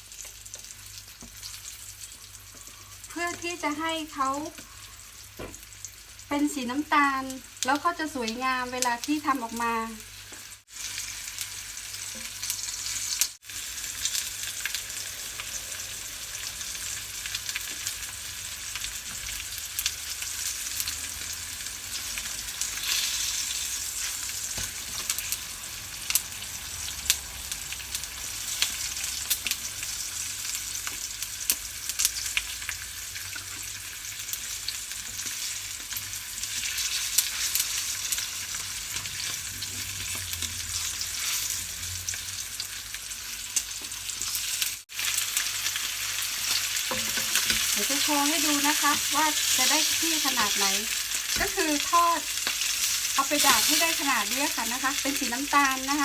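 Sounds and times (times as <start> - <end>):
meat sizzling in a pan: 0.0 - 56.0.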